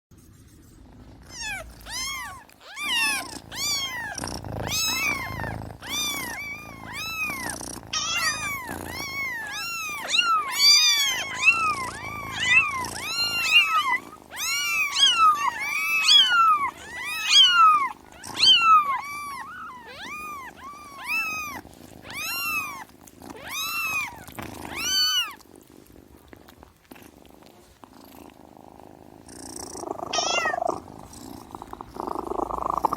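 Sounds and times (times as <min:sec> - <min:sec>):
kittens mewing: 0:01.2 - 0:25.6, 0:29.4 - 0:32.9.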